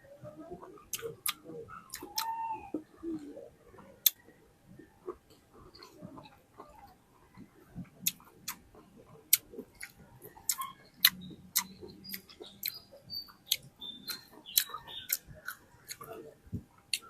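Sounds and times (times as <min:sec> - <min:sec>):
wet chewing sounds: 0:00.6 - 0:17.0.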